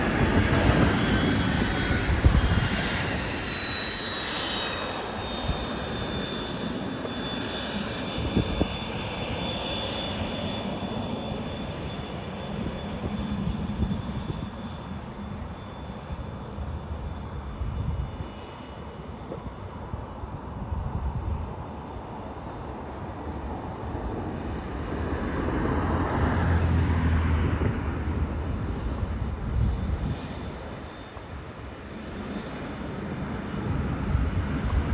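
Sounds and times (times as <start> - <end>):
jet engine whine: 0.0 - 34.9.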